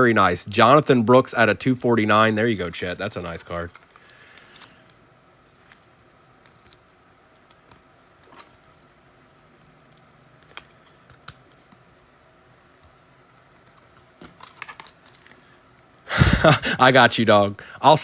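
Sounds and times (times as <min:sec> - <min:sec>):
low room hiss: 0:00.0 - 0:18.0.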